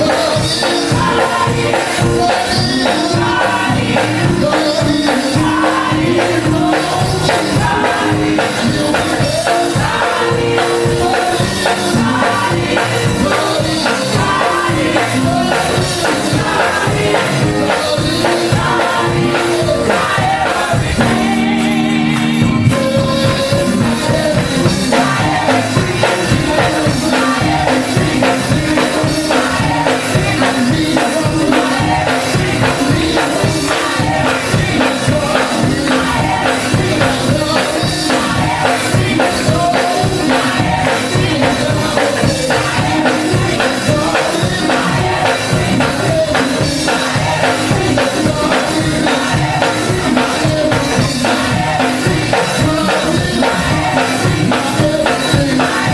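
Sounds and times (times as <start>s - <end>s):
band accompaniment: 0.0s - 55.9s
fast percussion beat: 0.0s - 55.9s
gospel choir singing: 0.0s - 55.9s.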